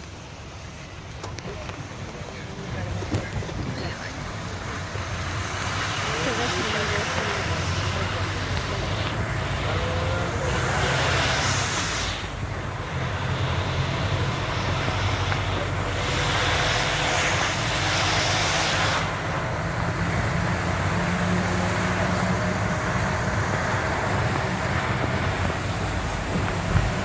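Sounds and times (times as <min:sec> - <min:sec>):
vehicle engine hum and road noise: 0:00.0 - 0:27.0
loud hiss: 0:03.8 - 0:27.0.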